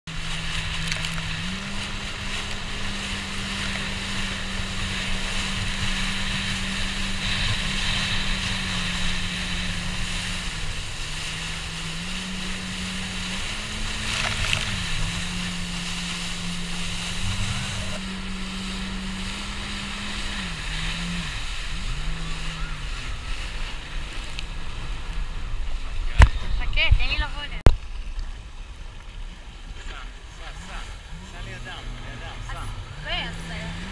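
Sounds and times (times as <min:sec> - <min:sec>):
jet ski engine running: 0:00.1 - 0:33.9
rush of wind and spray: 0:00.1 - 0:33.9.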